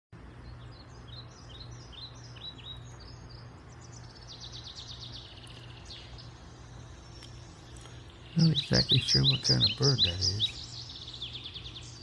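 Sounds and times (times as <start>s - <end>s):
low hum: 0.2s - 12.0s
songbird chirping: 0.2s - 12.0s.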